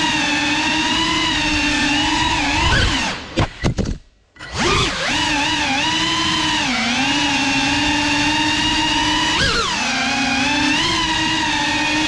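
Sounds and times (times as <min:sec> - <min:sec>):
drone motors buzzing whine: 0:00.0 - 0:03.8, 0:04.4 - 0:12.0.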